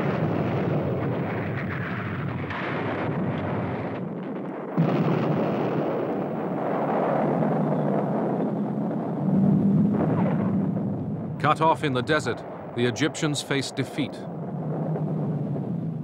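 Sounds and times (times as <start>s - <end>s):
explosions and artillery fire: 0.0s - 16.0s.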